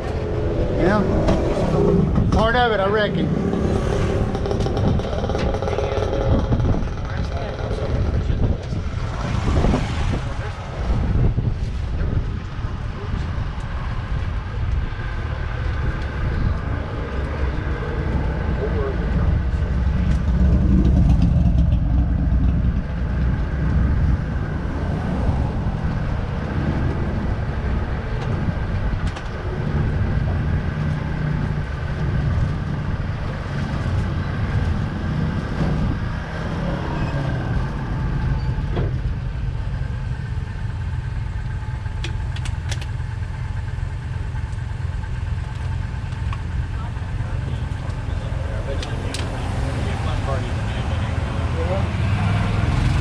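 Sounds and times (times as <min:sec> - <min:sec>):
tram engine rumbling: 0:00.0 - 0:53.0.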